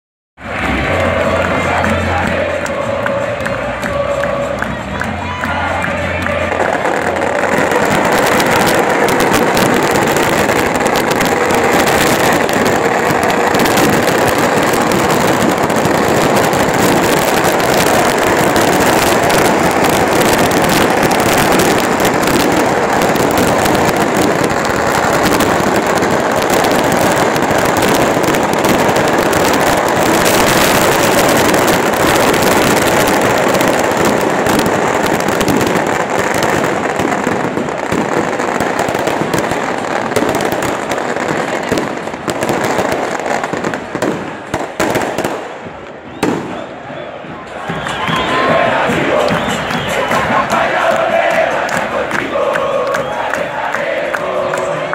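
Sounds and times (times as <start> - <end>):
firecrackers crackling: 0.4 - 54.9
stadium crowd noise: 0.4 - 54.9.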